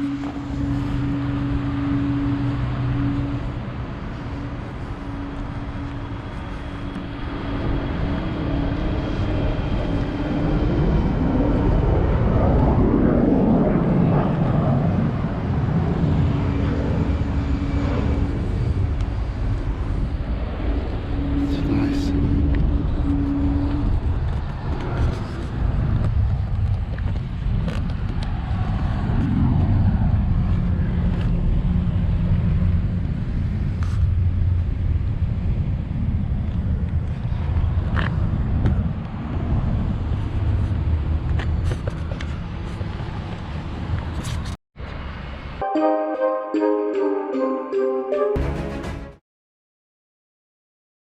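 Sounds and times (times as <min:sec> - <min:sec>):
road vehicles rumbling: 0:00.0 - 0:45.6.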